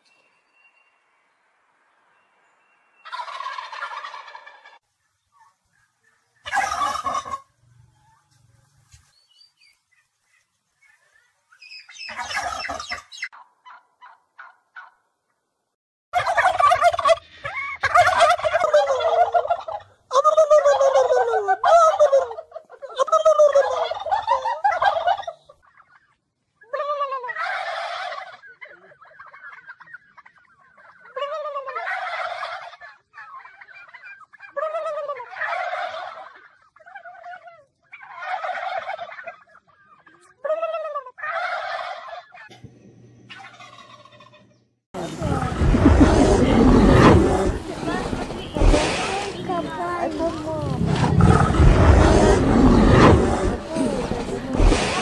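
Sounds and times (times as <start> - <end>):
turkeys gobbling: 3.0 - 15.0, 16.2 - 42.6, 43.3 - 55.0.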